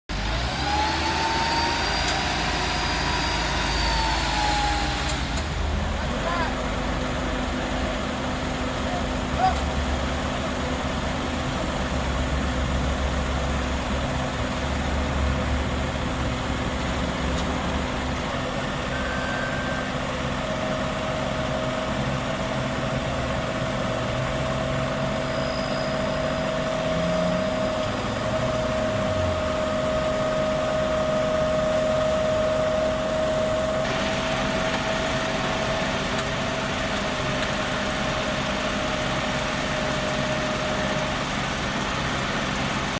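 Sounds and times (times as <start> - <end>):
heavy diesel engines rumbling: 0.1 - 42.9
steady whine: 0.1 - 42.9.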